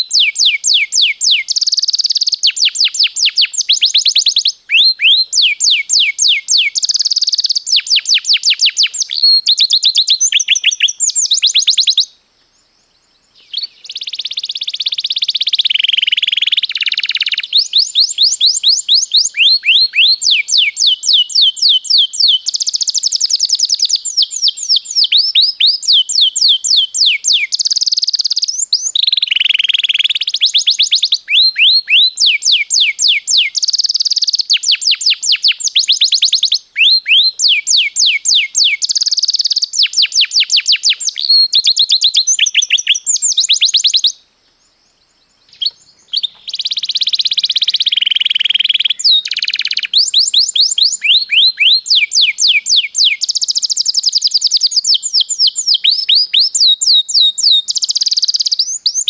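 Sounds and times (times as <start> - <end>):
canary singing: 0.0 - 12.1, 13.4 - 44.2, 45.5 - 59.0.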